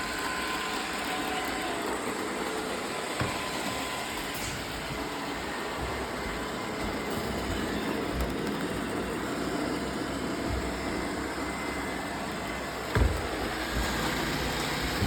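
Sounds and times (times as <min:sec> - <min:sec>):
robot vacuums running: 0:00.0 - 0:15.0.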